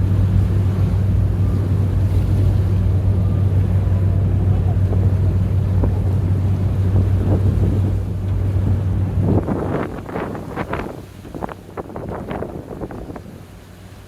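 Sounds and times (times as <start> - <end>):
boat engine droning: 0.0 - 14.0
wind buffeting microphone: 0.0 - 14.0.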